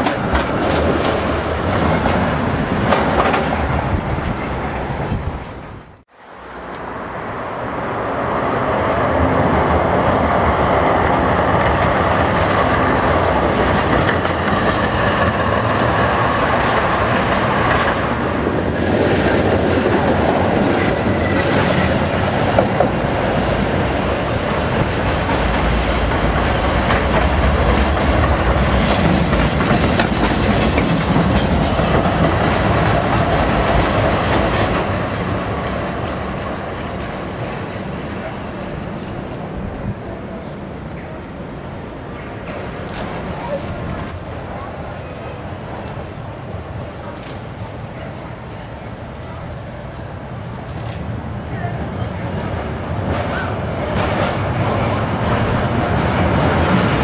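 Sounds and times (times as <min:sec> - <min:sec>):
tram wheels clattering on rails: 0:00.0 - 0:07.3, 0:08.2 - 0:57.0.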